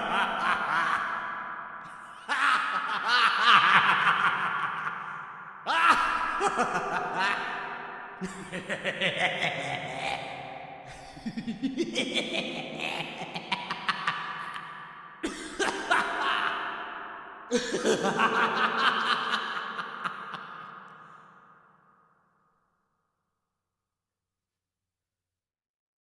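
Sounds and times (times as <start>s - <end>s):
maniacal laughter: 0.0s - 21.7s.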